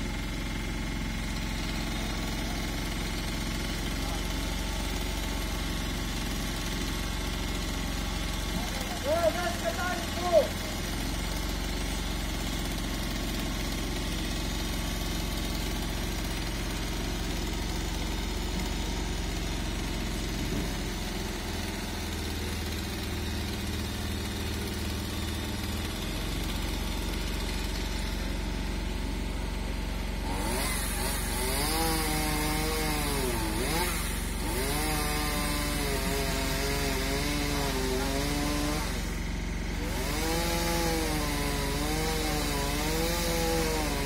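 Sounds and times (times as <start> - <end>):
engine running steadily: 0.0 - 41.8
chainsaw revving: 0.0 - 44.0.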